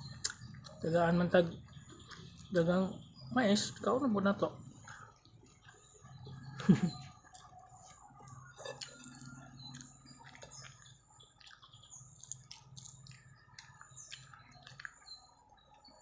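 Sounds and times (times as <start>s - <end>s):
chewing and wet clicks: 0.0s - 3.9s, 4.6s - 16.0s.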